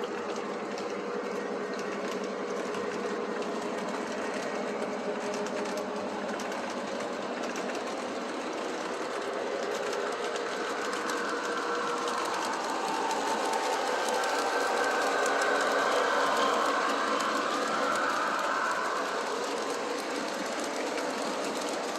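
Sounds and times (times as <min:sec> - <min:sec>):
model train motor whine: 0:00.0 - 0:21.9
wheels clattering on rails: 0:00.0 - 0:21.9.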